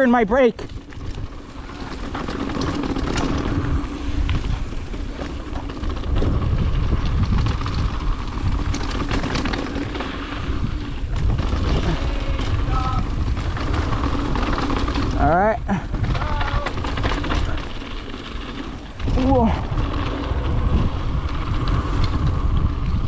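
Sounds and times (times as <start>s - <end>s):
bike clicks and rattles: 0.0s - 23.0s
tyres rumbling on dirt: 0.6s - 23.0s
wind rushing over microphone: 0.6s - 23.0s.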